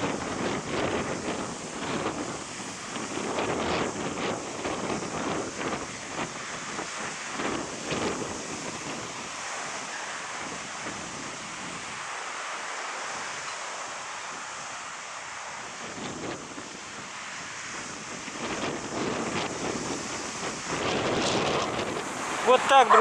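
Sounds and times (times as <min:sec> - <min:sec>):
sea surf rushing onto beach: 0:00.0 - 0:23.0
wind gusts buffeting microphone: 0:00.0 - 0:23.0.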